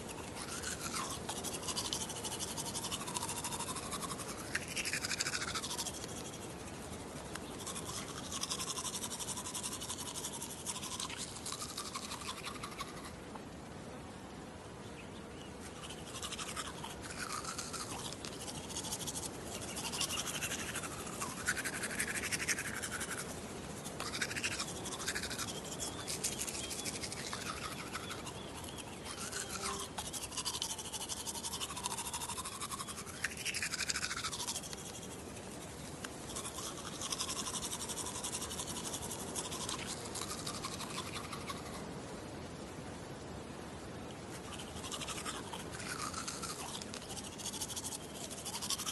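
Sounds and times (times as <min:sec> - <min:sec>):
toothbrush scrubbing teeth: 0:00.0 - 0:13.1, 0:15.7 - 0:41.8, 0:44.4 - 0:48.9.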